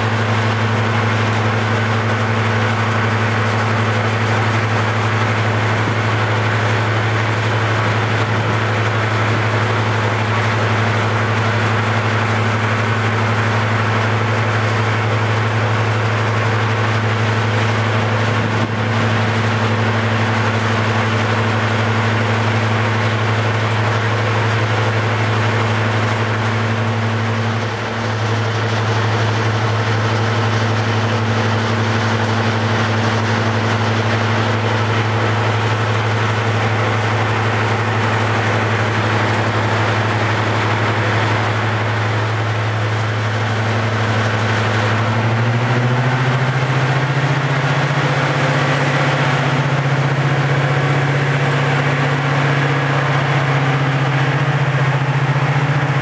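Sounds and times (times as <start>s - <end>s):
diesel locomotive engine idling: 0.0s - 56.0s
engine revving: 0.0s - 56.0s.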